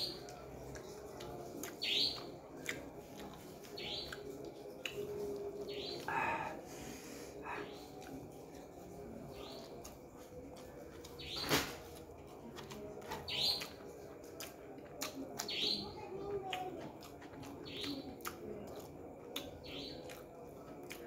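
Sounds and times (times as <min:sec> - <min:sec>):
chewing and mouth smacks: 0:00.0 - 0:06.0, 0:07.8 - 0:15.6, 0:16.4 - 0:21.0.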